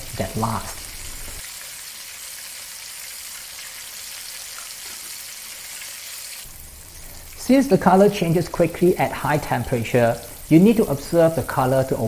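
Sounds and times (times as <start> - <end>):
oil sizzling and bubbling: 0.0 - 12.0.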